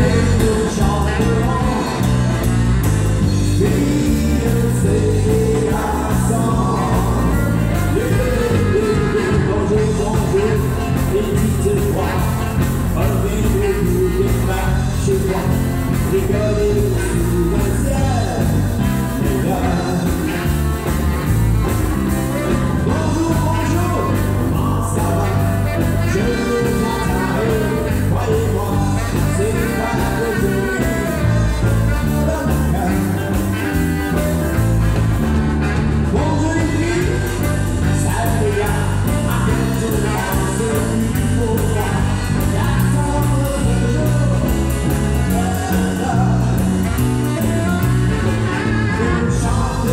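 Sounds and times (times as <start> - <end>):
drums: 0.0 - 49.9
electric guitar: 0.0 - 49.9
man singing: 0.0 - 49.9.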